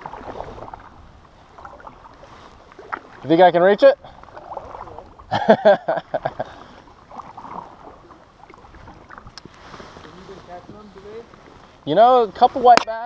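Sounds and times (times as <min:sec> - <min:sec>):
kayak paddle stroking water: 0:00.0 - 0:13.0.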